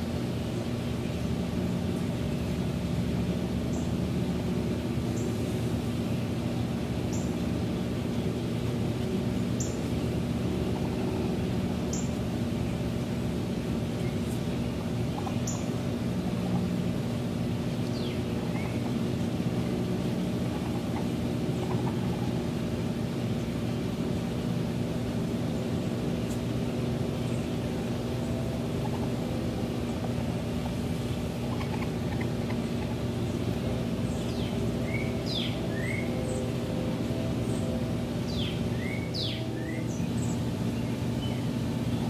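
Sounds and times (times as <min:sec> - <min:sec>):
steady mechanical hum: 0:00.0 - 0:42.0.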